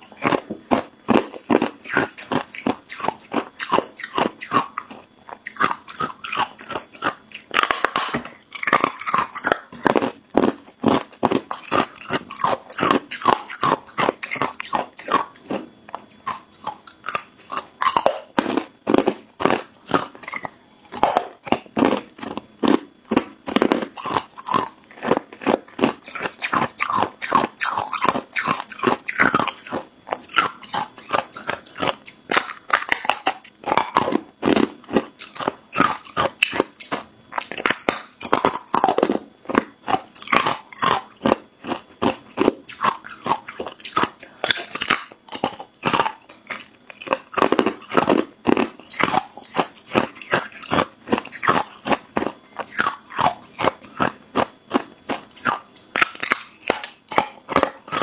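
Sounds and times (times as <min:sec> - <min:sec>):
person crunching ice: 0:00.1 - 0:15.6, 0:16.2 - 0:58.0.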